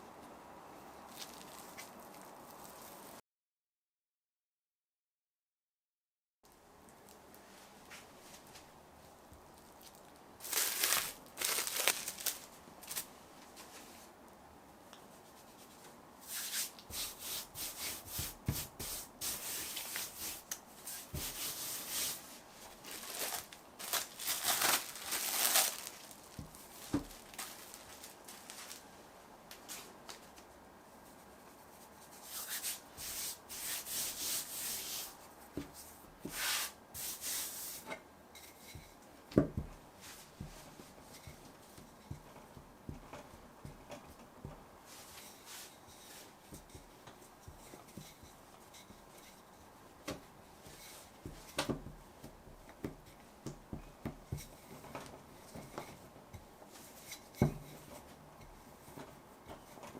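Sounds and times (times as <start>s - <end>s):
rubbing and scraping dough: 1.1s - 3.2s, 9.6s - 14.2s, 15.1s - 29.0s, 29.6s - 59.9s.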